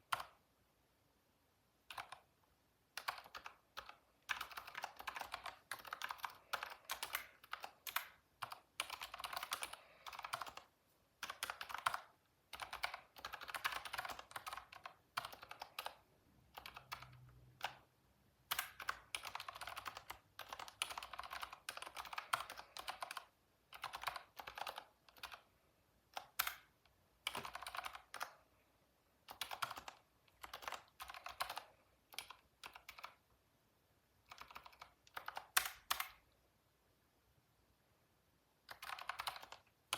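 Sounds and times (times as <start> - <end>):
typing on computer keyboard: 0.0 - 0.4, 1.8 - 2.3, 2.9 - 25.5, 26.1 - 28.4, 29.2 - 33.3, 34.2 - 36.2, 38.6 - 39.9.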